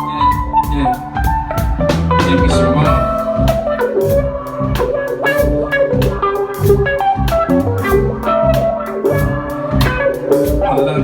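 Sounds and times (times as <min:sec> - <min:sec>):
guitar and bass chords: 0:00.0 - 0:11.0
hip-hop instrumental music: 0:00.0 - 0:11.0
steady drum beat: 0:00.0 - 0:11.0.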